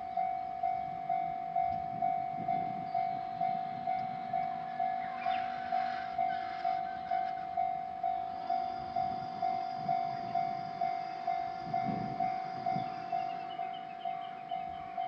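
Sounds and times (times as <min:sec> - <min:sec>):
railroad crossing bell ringing: 0:00.0 - 0:15.0.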